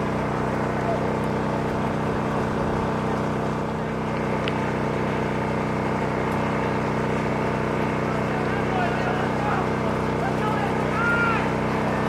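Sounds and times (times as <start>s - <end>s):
motor drone: 0.0s - 12.0s.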